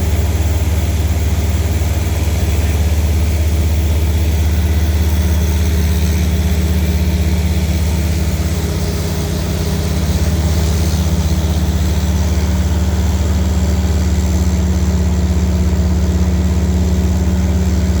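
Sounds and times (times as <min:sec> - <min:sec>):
fire truck engines droning: 0:00.0 - 0:18.0.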